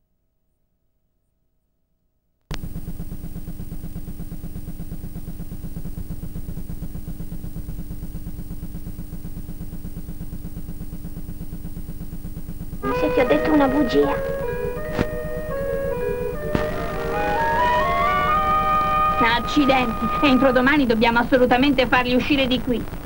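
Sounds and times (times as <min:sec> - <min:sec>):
fast low buzz: 0:02.5 - 0:23.0
loud static hiss: 0:02.5 - 0:23.0
steady hum: 0:04.2 - 0:23.0.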